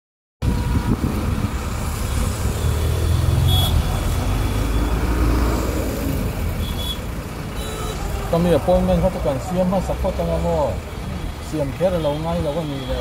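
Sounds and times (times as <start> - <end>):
road traffic rumble: 0.4 - 13.0.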